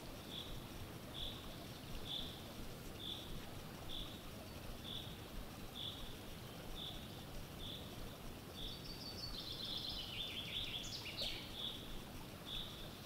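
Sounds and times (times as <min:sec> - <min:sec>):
low outdoor hiss: 0:00.0 - 0:13.0.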